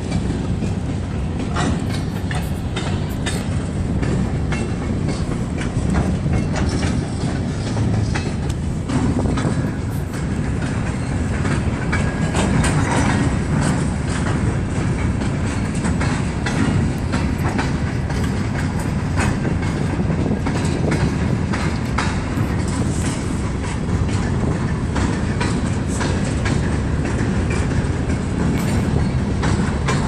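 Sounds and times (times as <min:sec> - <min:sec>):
train wheels rumbling on rail: 0:00.0 - 0:30.0
wheels clanking over rail joints: 0:00.0 - 0:30.0.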